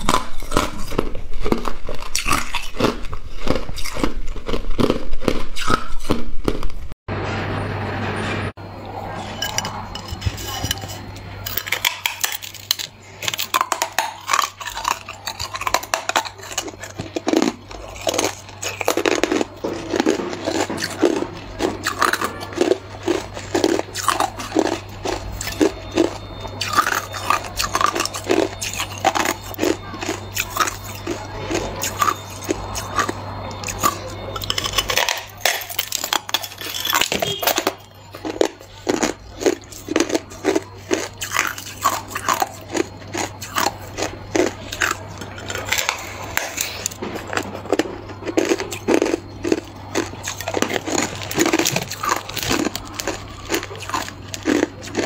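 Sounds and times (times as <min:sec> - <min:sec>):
ice crunching bites: 0:00.0 - 0:06.8, 0:11.5 - 0:55.0.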